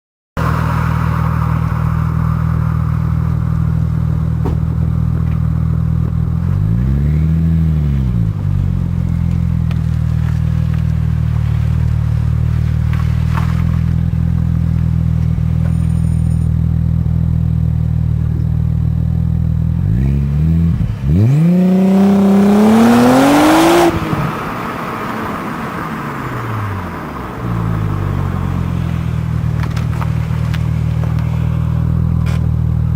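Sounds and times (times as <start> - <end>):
car engine idling and revving: 0.4 - 32.9.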